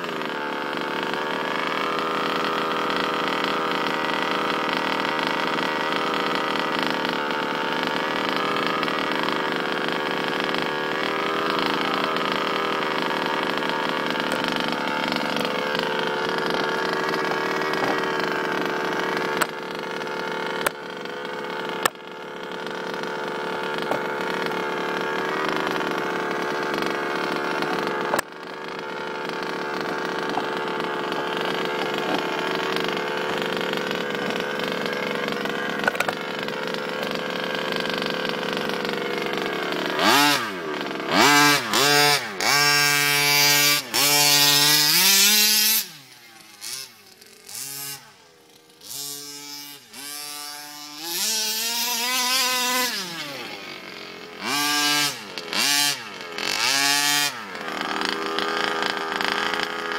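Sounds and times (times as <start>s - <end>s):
small two-stroke engine running: 0.0s - 59.9s.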